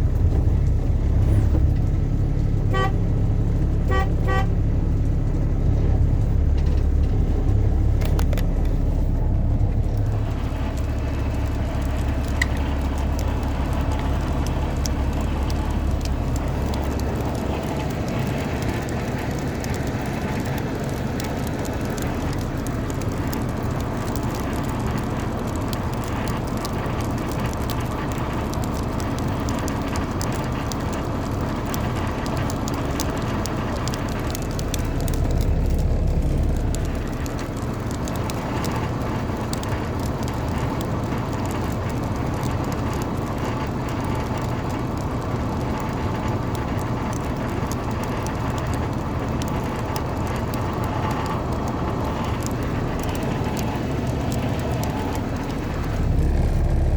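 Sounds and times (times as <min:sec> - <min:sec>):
vehicle engine rumble: 0:00.0 - 0:56.9.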